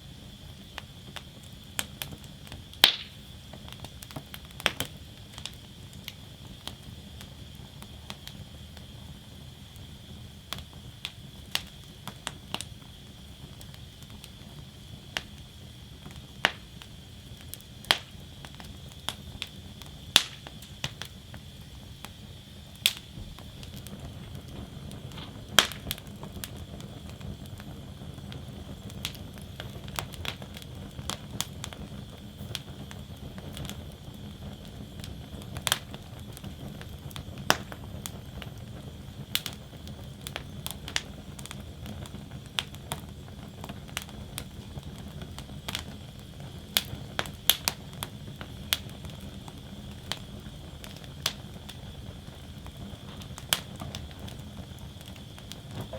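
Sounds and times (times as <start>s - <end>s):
burning wood crackling and popping: 0.0s - 55.9s
low rumble of flames: 0.0s - 55.9s.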